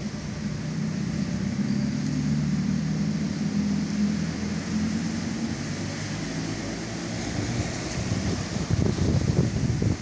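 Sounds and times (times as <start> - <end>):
low engine hum: 0.0 - 10.0
rain hissing: 0.0 - 10.0.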